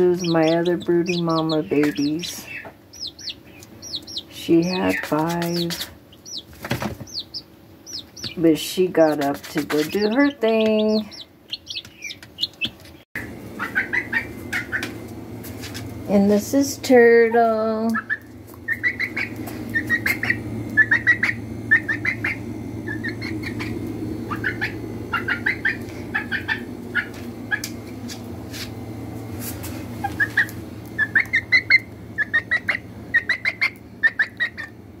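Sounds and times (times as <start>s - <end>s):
chicks peeping: 0.0s - 15.0s, 17.2s - 27.8s, 30.0s - 34.8s
steady low hum: 0.0s - 35.0s.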